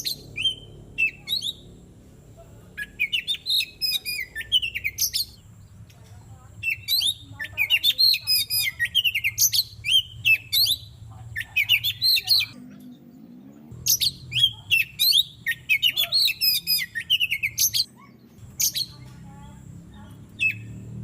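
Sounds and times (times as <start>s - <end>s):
magpie-robin singing: 0.0s - 1.9s, 2.6s - 21.0s.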